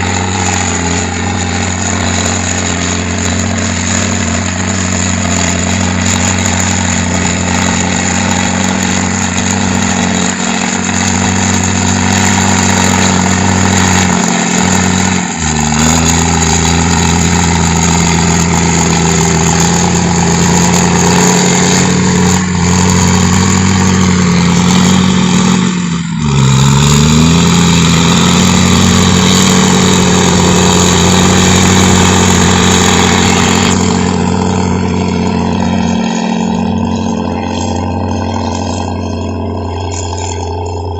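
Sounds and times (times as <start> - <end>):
diesel engine rumbling: 0.0 - 40.9.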